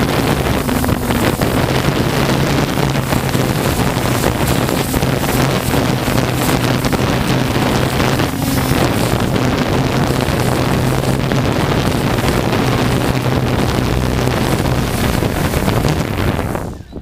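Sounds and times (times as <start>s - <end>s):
low hum: 0.0s - 17.0s
wind buffeting microphone: 0.0s - 17.0s.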